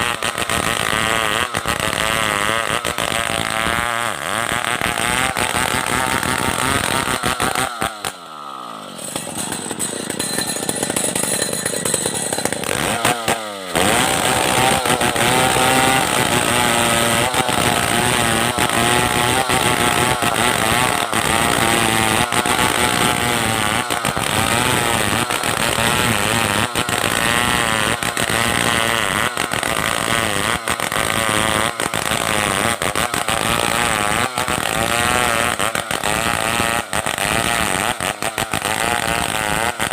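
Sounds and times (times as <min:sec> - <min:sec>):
chainsaw revving and cutting log: 0:00.0 - 0:39.9.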